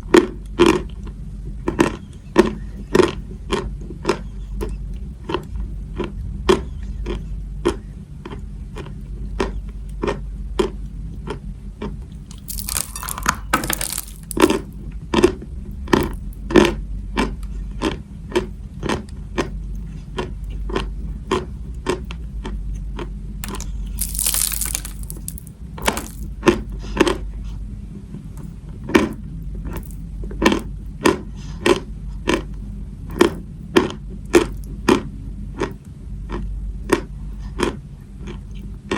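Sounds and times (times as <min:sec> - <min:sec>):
low steady hum: 0:00.0 - 0:38.9
chewing chalk crunches: 0:01.7 - 0:27.6, 0:29.0 - 0:38.9.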